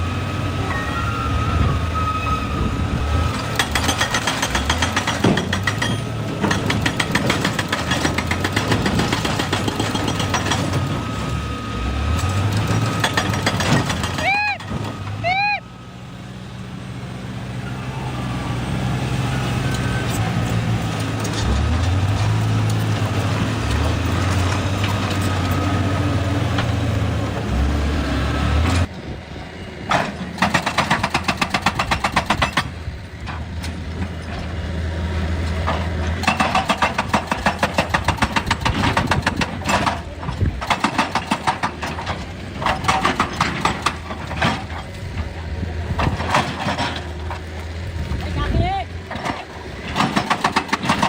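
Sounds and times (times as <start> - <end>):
excavator diesel engine: 0.0 - 51.0.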